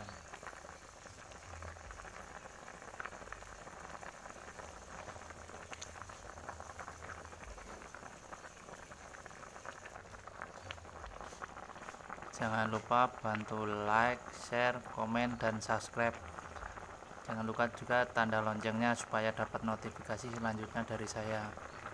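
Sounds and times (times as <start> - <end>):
broth boiling with bubbling pops: 0.0 - 21.9.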